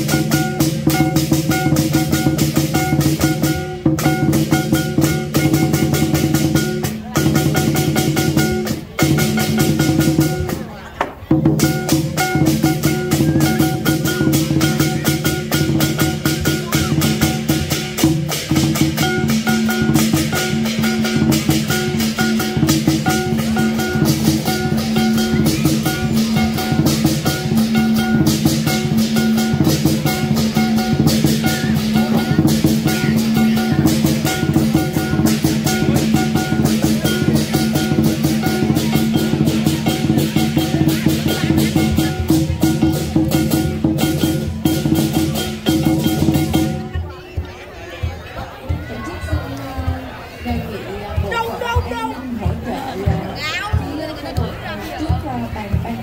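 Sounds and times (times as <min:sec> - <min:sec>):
clashing cymbals: 0:00.0 - 0:10.6, 0:11.6 - 0:46.8
drum beaten fast: 0:00.0 - 0:56.0.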